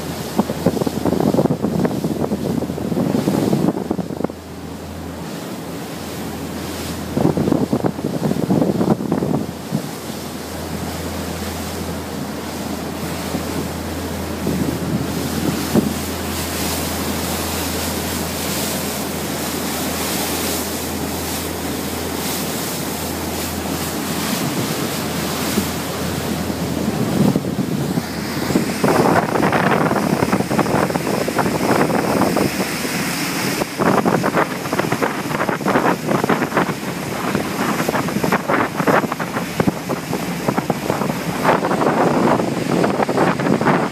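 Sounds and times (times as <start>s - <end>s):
wind buffeting microphone: 0.0s - 5.4s, 6.0s - 43.9s
boat engines droning: 0.0s - 43.9s
water rushing along hull: 0.0s - 43.9s.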